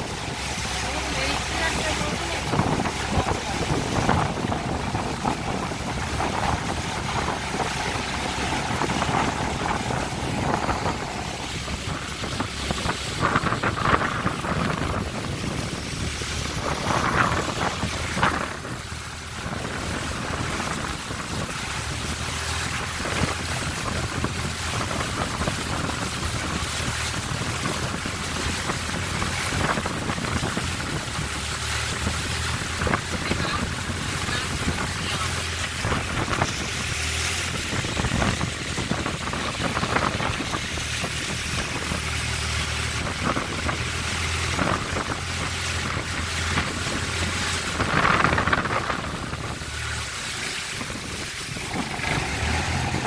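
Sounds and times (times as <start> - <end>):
boat engine running: 0.0 - 53.0
water along hull: 0.0 - 53.0
wind on microphone: 0.0 - 53.0.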